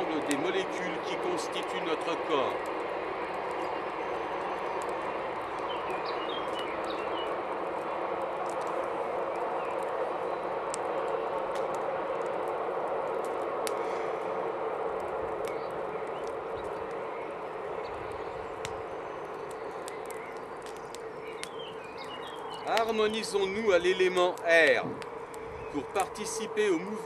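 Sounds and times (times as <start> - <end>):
steady rushing noise: 0.0 - 27.0
wood fire crackling and popping: 0.0 - 27.0.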